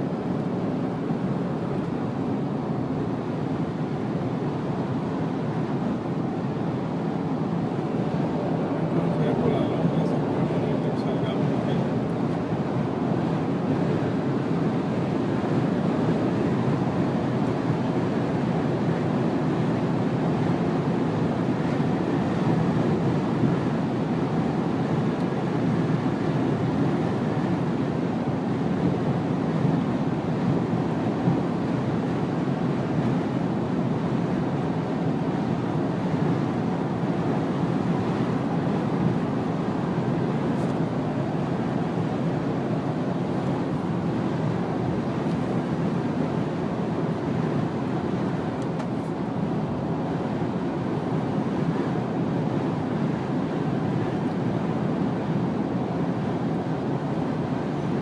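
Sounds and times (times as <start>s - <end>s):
wind: 0.0s - 58.0s.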